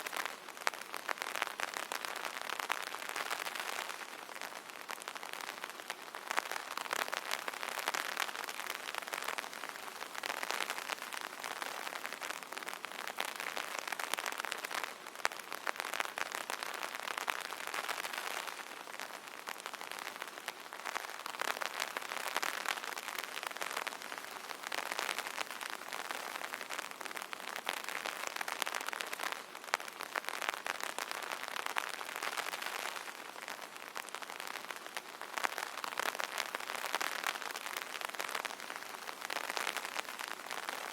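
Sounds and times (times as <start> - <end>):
rain pattering on an umbrella: 0.0 - 40.9.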